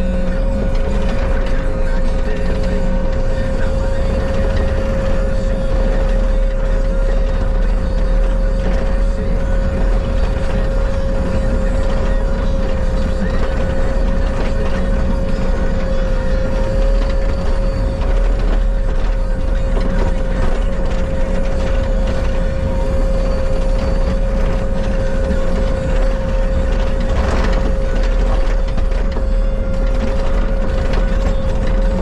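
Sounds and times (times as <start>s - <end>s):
skid steer engine rumble: 0.0s - 32.0s
steady whine: 0.0s - 32.0s.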